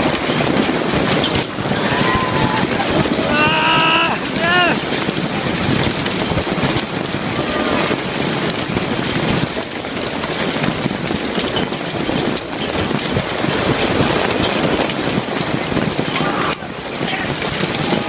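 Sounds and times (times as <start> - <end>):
hail and rain pelting down: 0.0 - 18.0.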